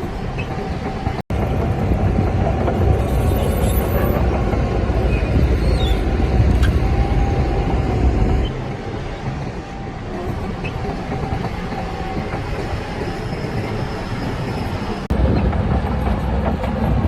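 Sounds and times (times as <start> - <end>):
steel tracks clattering: 0.0 - 17.0.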